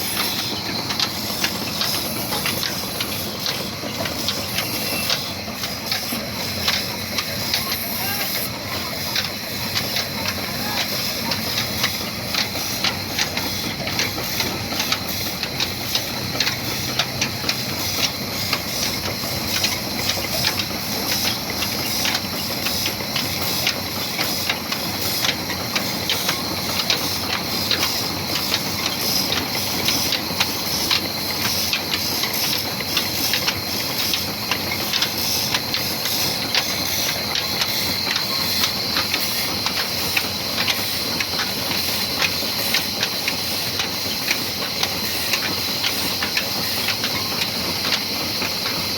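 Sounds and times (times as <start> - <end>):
diesel engine clattering: 0.0 - 48.9.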